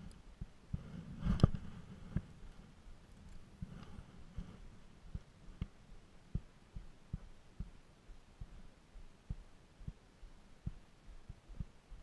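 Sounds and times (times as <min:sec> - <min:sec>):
faint low thumps: 0:00.0 - 0:12.0.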